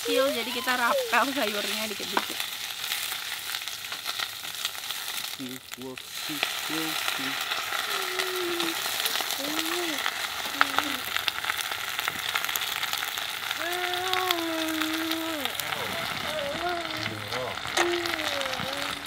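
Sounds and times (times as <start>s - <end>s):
greens sizzling in oil: 0.0s - 19.0s.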